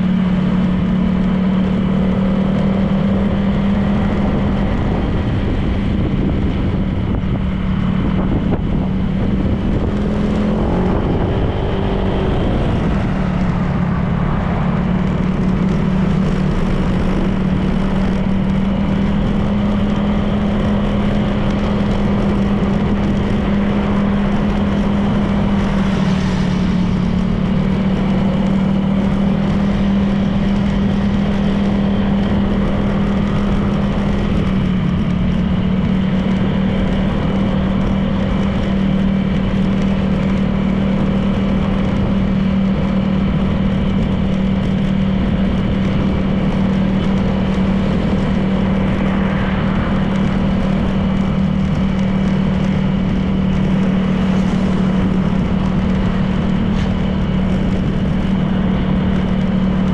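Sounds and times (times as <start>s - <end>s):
road and wind noise: 0.0s - 59.9s
scooter engine running: 0.0s - 59.9s.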